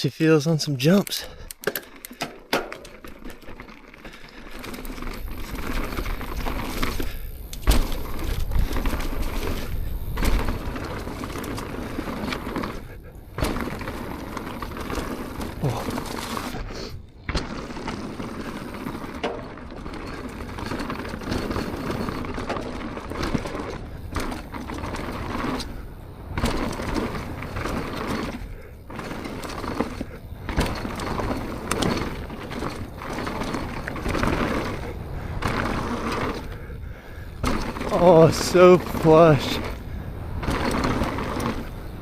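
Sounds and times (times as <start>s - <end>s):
bike tyres rolling over dirt: 0.0s - 42.0s
bike knocking over bumps: 1.6s - 16.6s, 17.2s - 42.0s.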